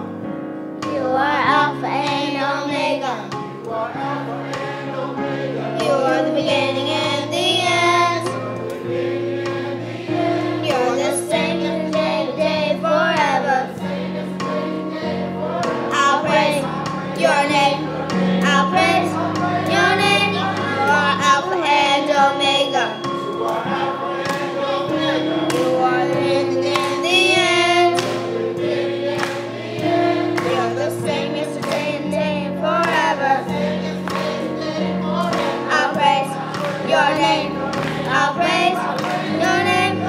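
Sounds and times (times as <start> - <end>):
instrumental accompaniment: 0.0 - 40.0
children's choir singing gospel: 0.8 - 40.0.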